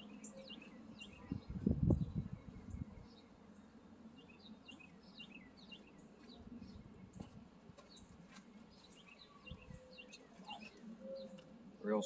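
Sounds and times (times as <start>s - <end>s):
faint small bird chirping: 0.0s - 7.3s, 8.7s - 11.5s.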